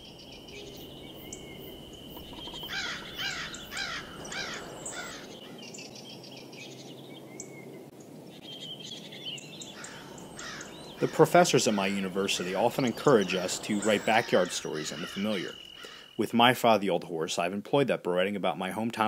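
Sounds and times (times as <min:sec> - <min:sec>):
bird calling: 0:00.0 - 0:16.6
low background hiss: 0:00.0 - 0:19.0.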